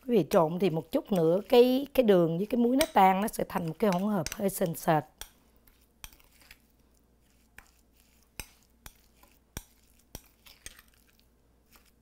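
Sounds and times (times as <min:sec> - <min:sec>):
spoon stirring thick paste: 0:00.0 - 0:12.0.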